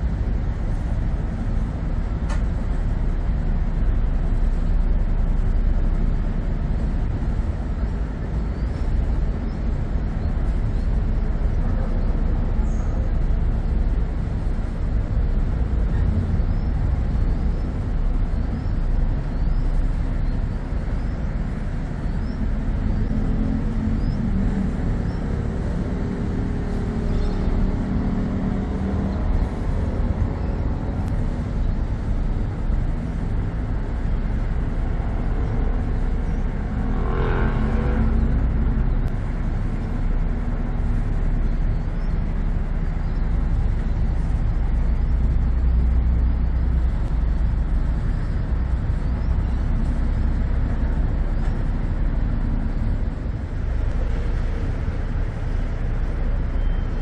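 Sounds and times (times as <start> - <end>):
engines and road traffic rumble: 0.0 - 57.0.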